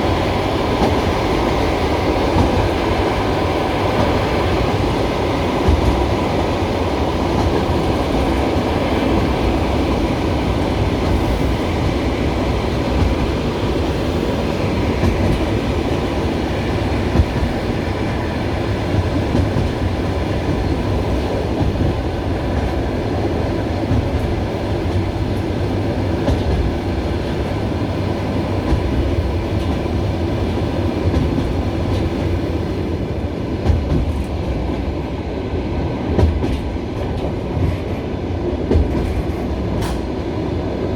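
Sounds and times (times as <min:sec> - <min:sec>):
train running noise inside carriage: 0:00.0 - 0:40.9.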